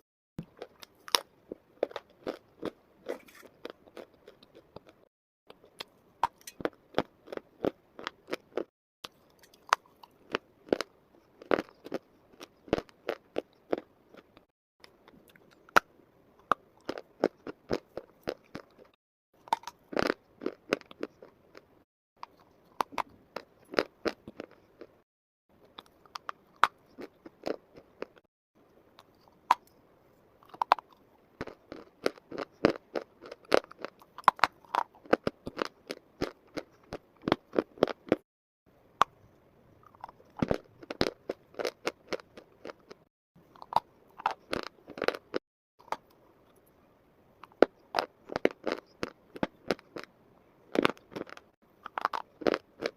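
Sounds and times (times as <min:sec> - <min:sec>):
crunching of crisp food: 0:00.4 - 0:25.0, 0:25.6 - 0:28.3, 0:30.4 - 0:38.2, 0:39.0 - 0:46.7, 0:47.4 - 0:52.9.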